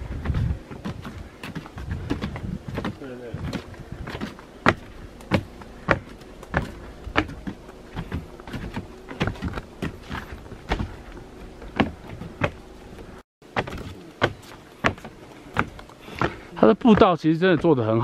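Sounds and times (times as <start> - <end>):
footsteps on wooden boardwalk: 0.0 - 18.0.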